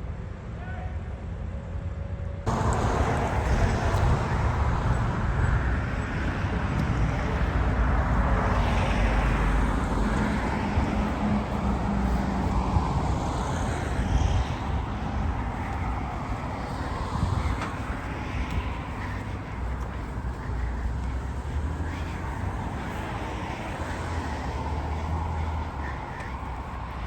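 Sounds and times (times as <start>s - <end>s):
road traffic noise: 2.3s - 27.0s
vehicle passing by: 2.5s - 27.0s.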